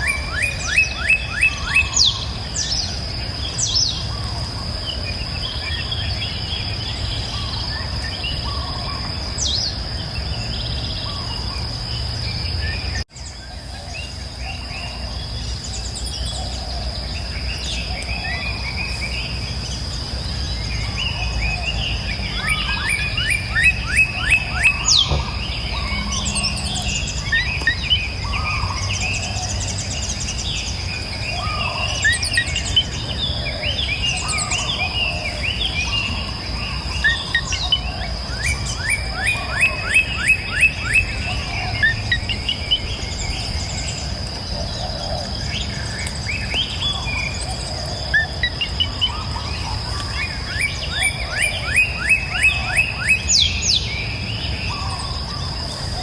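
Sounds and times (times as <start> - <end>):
high-pitched insect drone: 0.0 - 56.0
songbirds chirping: 0.0 - 56.0.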